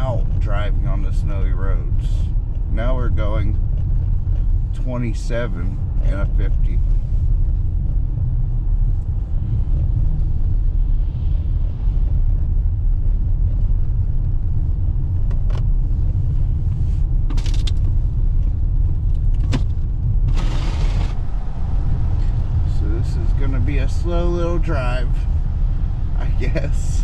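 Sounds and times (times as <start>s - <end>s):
tyre and road noise: 0.0s - 27.0s.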